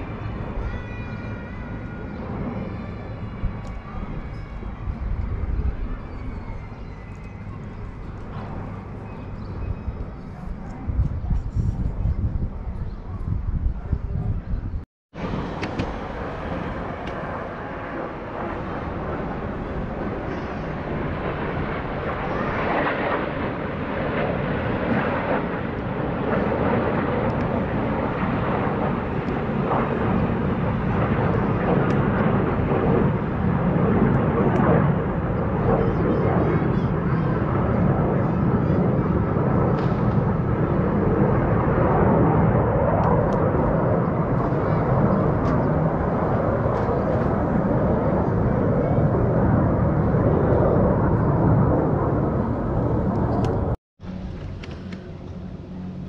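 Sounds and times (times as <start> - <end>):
aircraft engine rumble: 0.0 - 56.0.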